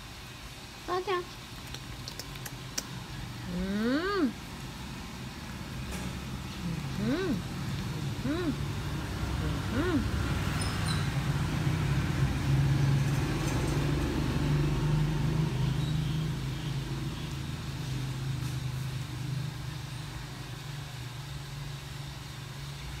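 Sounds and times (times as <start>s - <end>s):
low engine hum: 3.2s - 21.7s.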